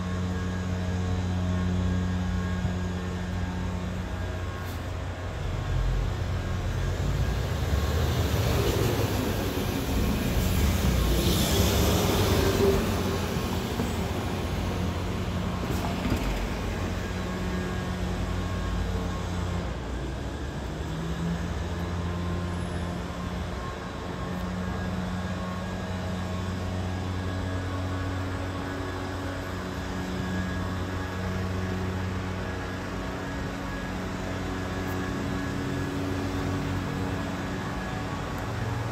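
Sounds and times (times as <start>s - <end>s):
vehicle engine hum: 0.0s - 38.9s.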